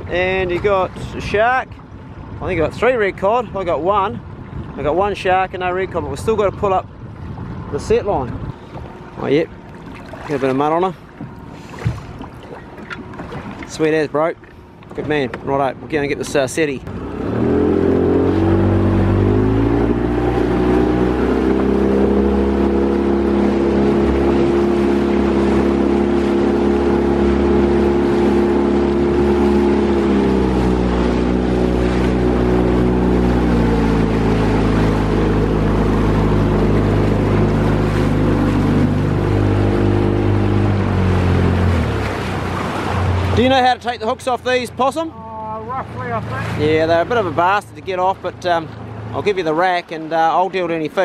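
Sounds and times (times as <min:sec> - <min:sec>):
outboard motor running: 0:00.0 - 0:51.0
water rushing along hull: 0:00.0 - 0:51.0.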